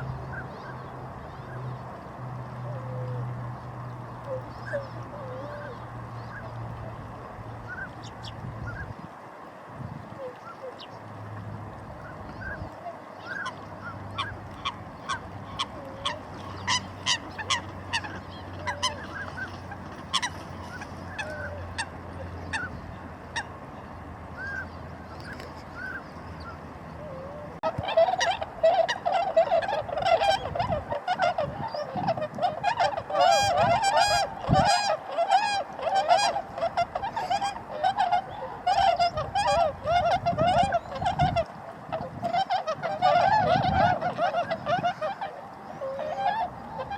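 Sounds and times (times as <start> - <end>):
swans honking: 0.0 - 46.9.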